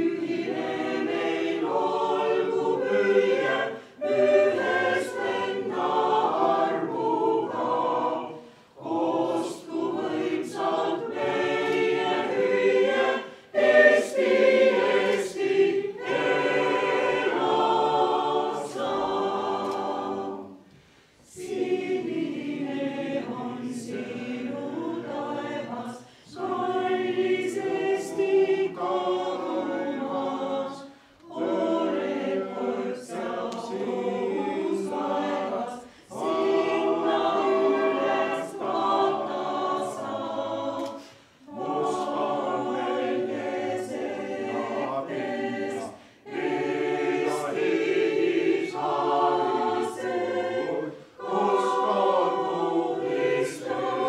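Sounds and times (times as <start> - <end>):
mixed choir singing unaccompanied: 0.0 - 54.0.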